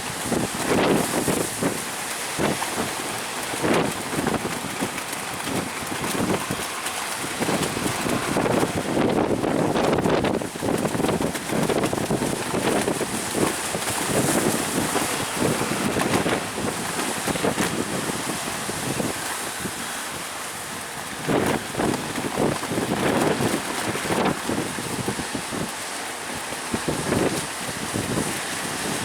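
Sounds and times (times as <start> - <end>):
surf breaking: 0.0 - 29.0
wind buffeting microphone: 0.0 - 29.0.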